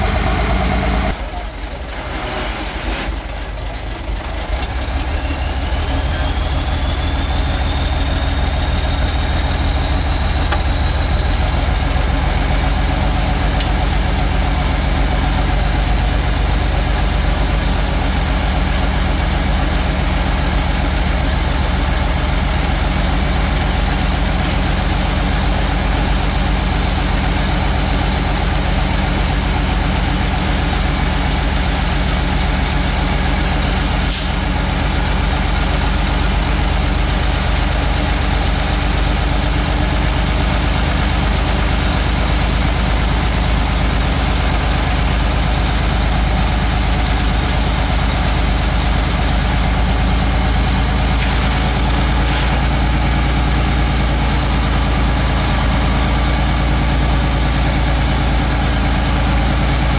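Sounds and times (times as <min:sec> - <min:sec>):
heavy diesel engine rumbling: 0:00.0 - 0:59.9.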